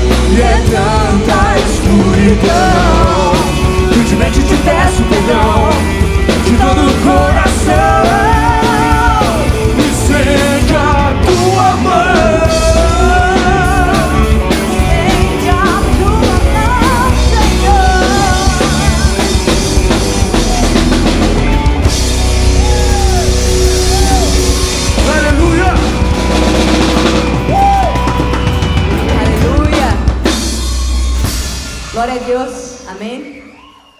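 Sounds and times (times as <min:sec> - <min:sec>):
live rock band playing: 0:00.0 - 0:33.1.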